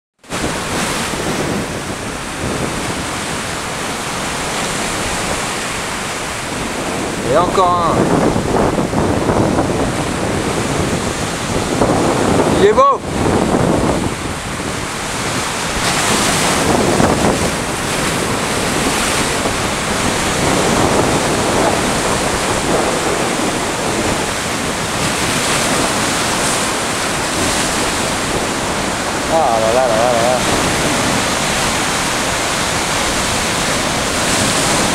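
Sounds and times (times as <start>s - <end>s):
sea surf breaking over rocks: 0.2s - 34.9s.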